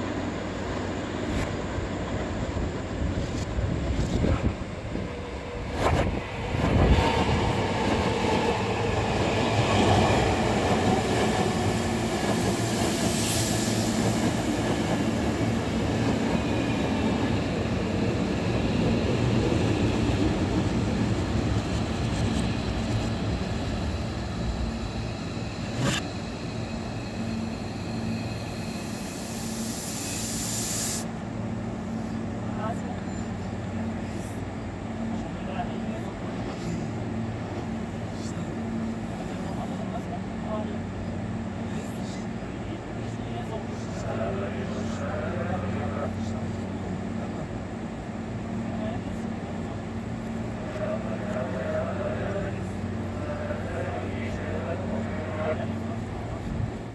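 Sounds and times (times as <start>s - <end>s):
train wheel and rail noise: 0.0s - 56.9s.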